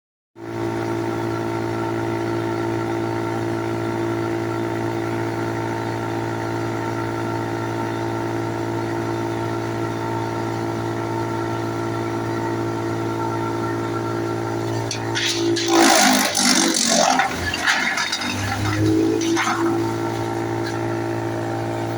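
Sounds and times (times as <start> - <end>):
tractor driving wood chipper: 0.4 - 21.9.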